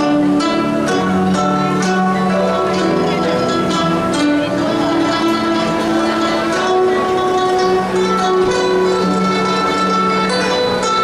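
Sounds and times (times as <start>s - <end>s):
plucked zithers playing: 0.0s - 11.0s.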